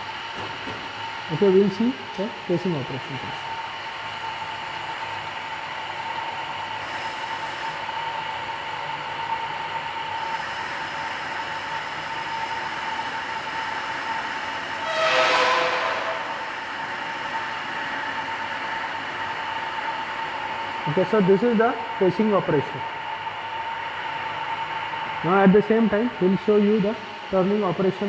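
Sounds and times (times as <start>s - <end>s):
lathe running with whine: 3.4s - 28.0s.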